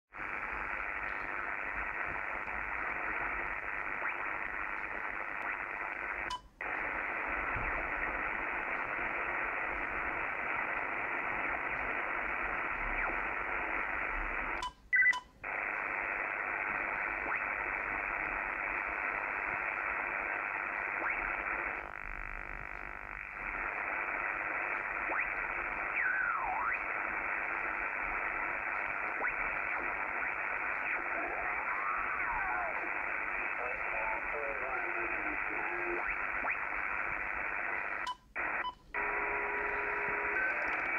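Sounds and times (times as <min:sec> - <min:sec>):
muffled radio static hiss: 0:00.1 - 0:40.9.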